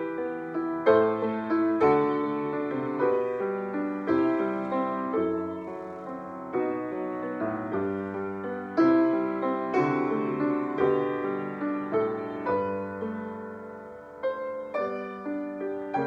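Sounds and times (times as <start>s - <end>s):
solo grand piano: 0.0s - 16.0s.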